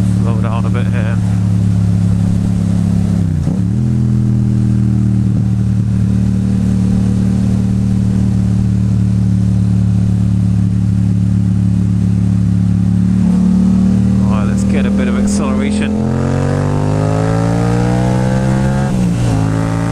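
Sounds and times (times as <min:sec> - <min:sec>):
motorcycle engine at low revs: 0:00.0 - 0:19.9.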